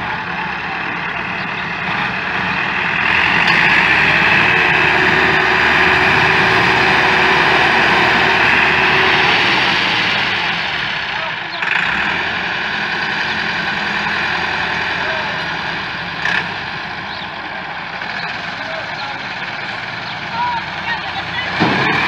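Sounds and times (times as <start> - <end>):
tractor diesel engines under load: 0.0 - 22.0.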